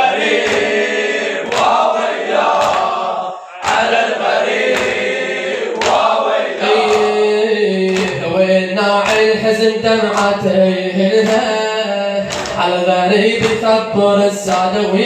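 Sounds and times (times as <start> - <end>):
men chanting together: 0.0 - 15.0
rhythmic chest-beating slaps: 0.0 - 15.0.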